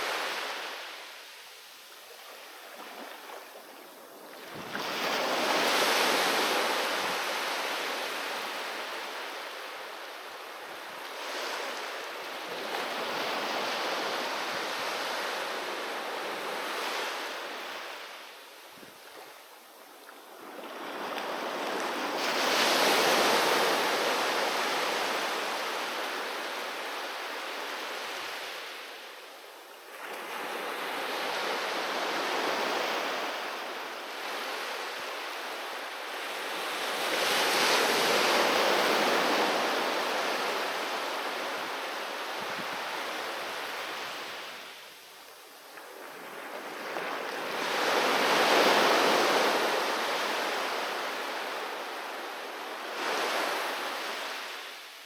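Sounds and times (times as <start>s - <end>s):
ocean waves breaking on beach: 0.0s - 44.9s, 45.6s - 55.0s.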